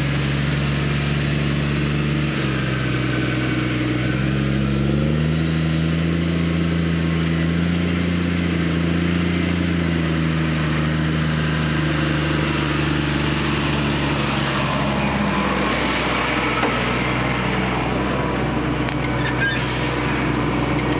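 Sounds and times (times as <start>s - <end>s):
tractor diesel engine under load: 0.0s - 20.9s.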